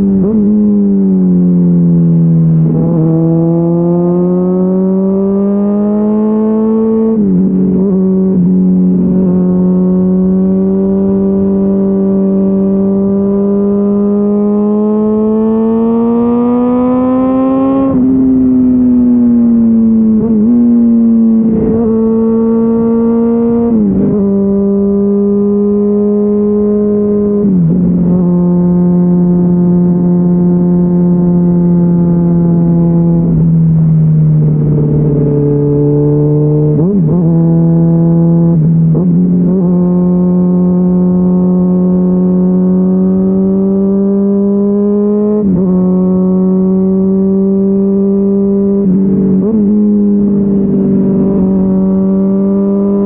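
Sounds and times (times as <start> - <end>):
loud motorcycle engine: 0.0 - 53.0.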